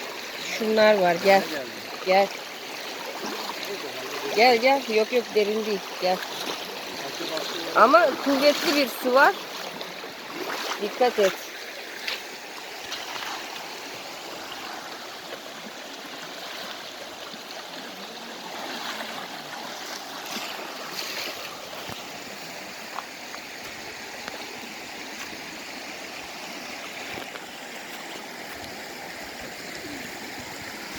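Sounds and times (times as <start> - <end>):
creek rushing over rocks: 0.0 - 30.9.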